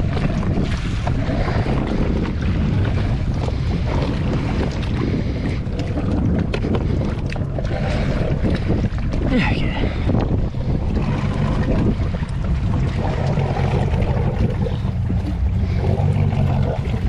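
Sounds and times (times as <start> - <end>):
low rumble over water: 0.0 - 17.0
wind buffeting microphone: 0.0 - 17.0.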